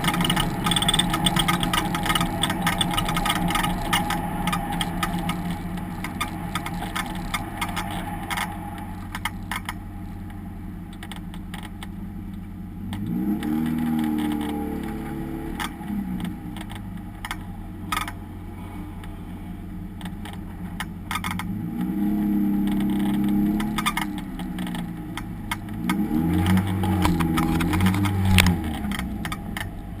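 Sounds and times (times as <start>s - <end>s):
sharp clicks and rattles: 0.0s - 18.2s, 19.9s - 21.9s, 22.6s - 30.0s
race car engine: 0.0s - 30.0s.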